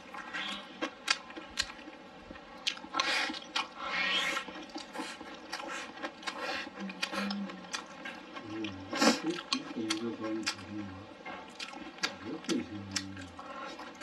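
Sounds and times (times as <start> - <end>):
person chewing and smacking: 0.1 - 14.0.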